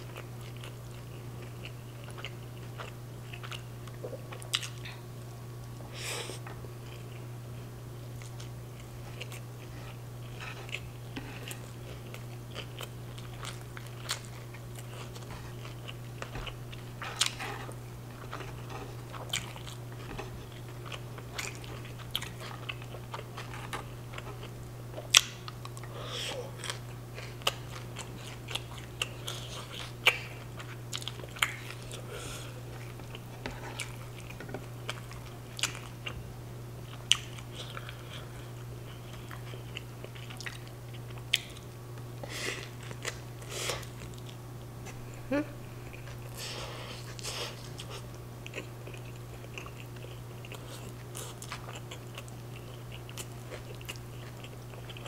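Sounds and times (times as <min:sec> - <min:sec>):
wet chewing and crunching: 0:00.0 - 0:05.8, 0:08.1 - 0:36.2, 0:36.8 - 0:41.8, 0:45.8 - 0:55.0.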